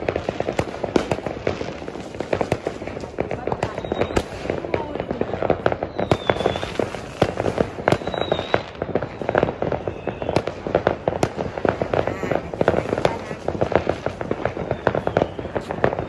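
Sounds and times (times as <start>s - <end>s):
firework whistles: 0.0s - 16.0s
fireworks bangs and pops: 0.0s - 16.0s.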